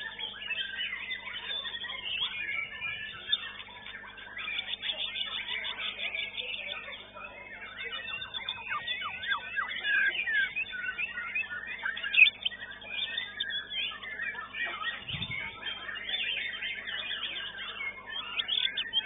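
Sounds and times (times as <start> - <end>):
birds singing whistles: 0.0 - 19.0.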